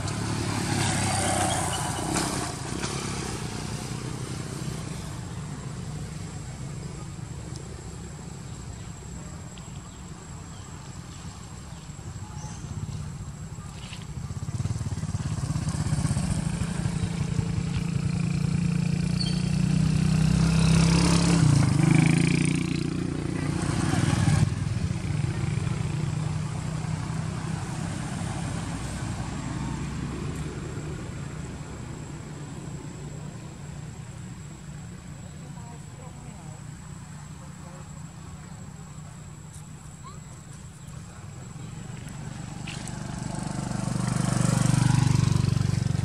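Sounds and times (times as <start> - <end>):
vehicle engine passing by: 0.0 - 7.2, 12.5 - 39.2, 40.0 - 46.0.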